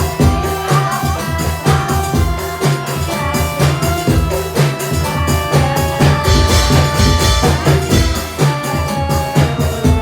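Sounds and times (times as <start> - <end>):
held melodic tones: 0.0 - 10.0
steady drum beat: 0.0 - 10.0.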